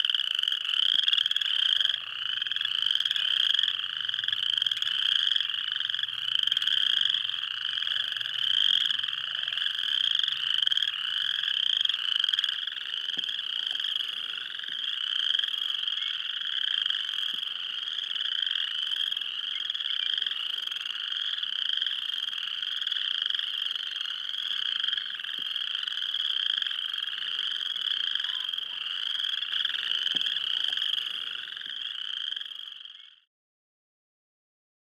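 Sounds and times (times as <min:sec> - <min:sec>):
chorus of frogs trilling: 0:00.0 - 0:33.3.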